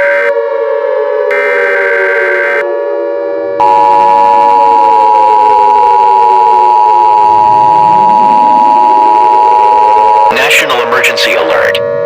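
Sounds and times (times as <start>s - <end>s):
two-tone alert signal: 1.3s - 2.7s, 3.6s - 11.9s.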